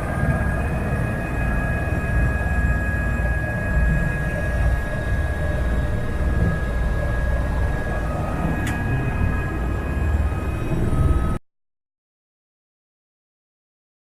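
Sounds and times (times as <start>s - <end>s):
helicopter rotor and engine drone: 0.0s - 11.4s
high whine: 0.0s - 11.4s.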